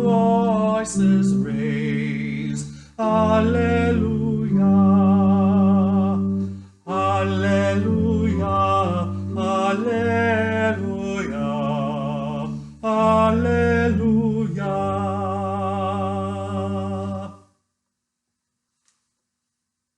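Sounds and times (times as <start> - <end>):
hymn singing with vibrato: 0.0 - 17.4.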